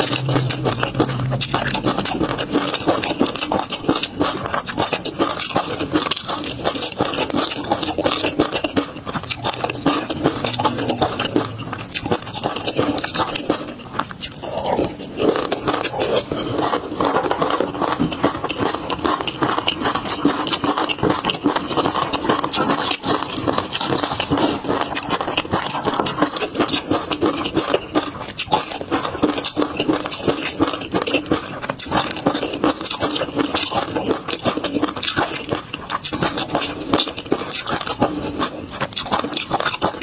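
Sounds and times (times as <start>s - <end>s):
mouth clicks and smacks eating: 0.0s - 40.0s.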